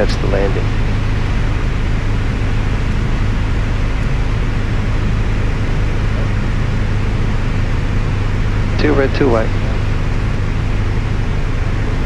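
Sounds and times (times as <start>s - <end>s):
aircraft engine and propeller droning: 0.0s - 12.0s.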